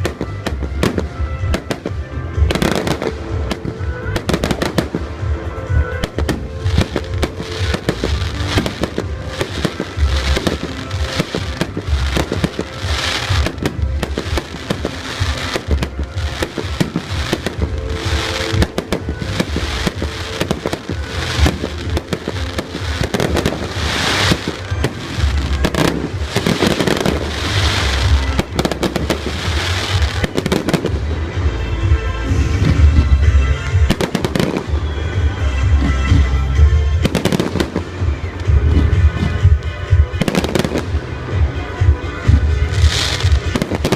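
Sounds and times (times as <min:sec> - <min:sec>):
fireworks bangs and pops: 0:00.0 - 0:43.9
fireworks crackling: 0:00.0 - 0:43.9.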